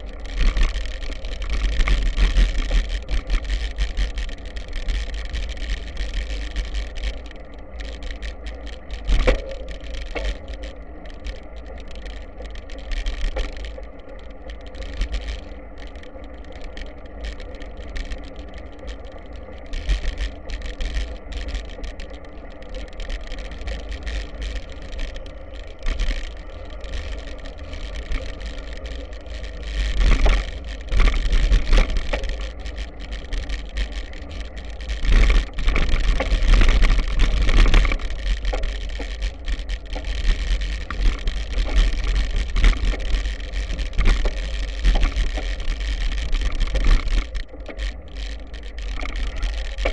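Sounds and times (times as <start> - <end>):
bicycle tyres rolling on gravel: 0.0 - 49.9
bike knocks and rattles: 0.0 - 49.9.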